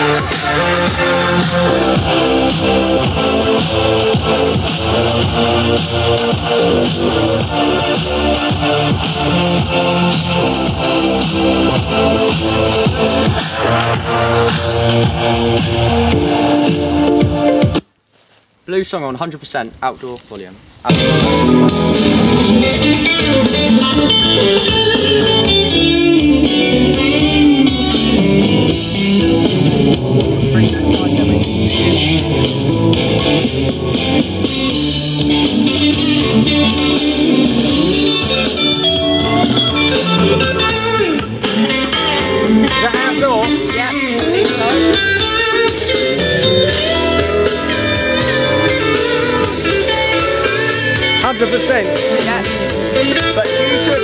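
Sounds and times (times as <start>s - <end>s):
blues music from a speaker: 0.0s - 17.8s, 20.9s - 54.0s.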